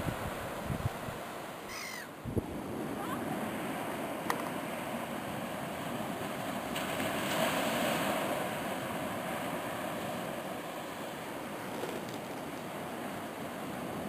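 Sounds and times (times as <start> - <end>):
surf: 0.0 - 14.0
wind: 0.0 - 14.0.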